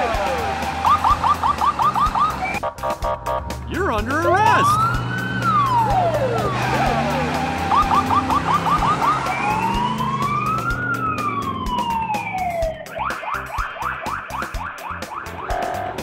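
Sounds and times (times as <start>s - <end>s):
police siren wailing and yelping: 0.0s - 16.0s.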